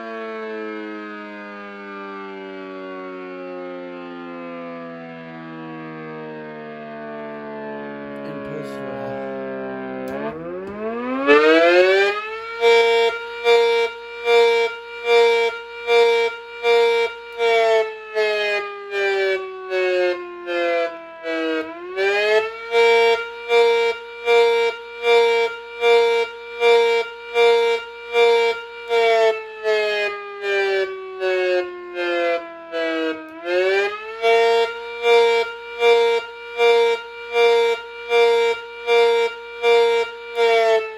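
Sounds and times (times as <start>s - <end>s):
electric siren pulsing wail: 0.0s - 40.9s.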